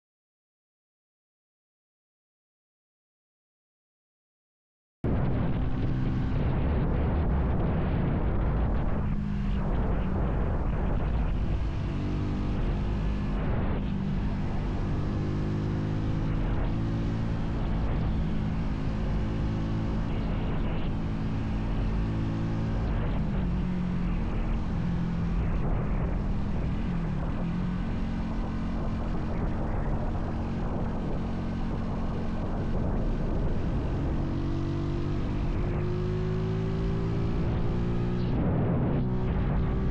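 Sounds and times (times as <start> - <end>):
wind and road noise: 5.0 - 39.9
motorcycle engine cruising: 5.4 - 39.9.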